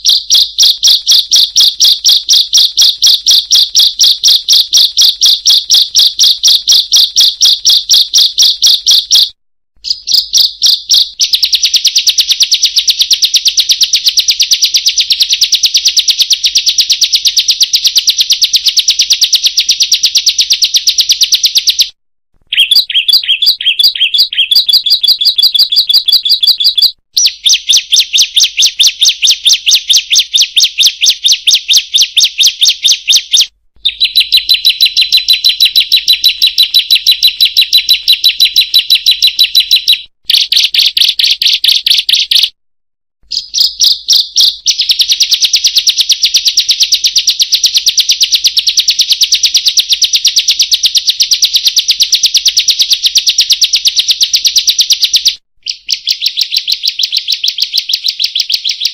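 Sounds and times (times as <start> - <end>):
bird chattering trill: 0.0 - 21.9, 22.5 - 42.5, 43.2 - 47.9, 55.6 - 58.9.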